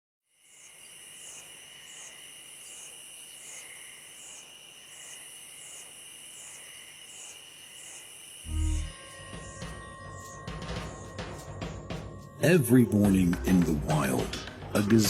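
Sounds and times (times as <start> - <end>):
insects chirring: 0.3 - 12.4.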